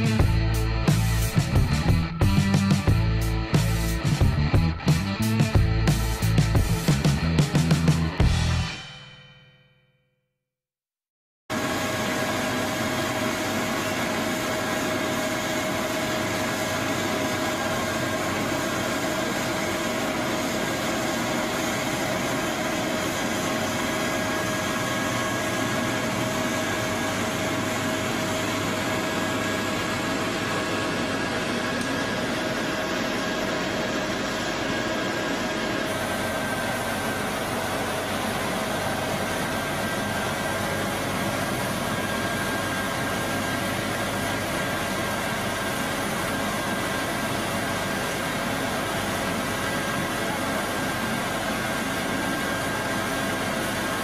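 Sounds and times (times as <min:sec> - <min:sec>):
diesel paving machinery drone: 0:00.0 - 0:08.7, 0:11.5 - 0:54.0.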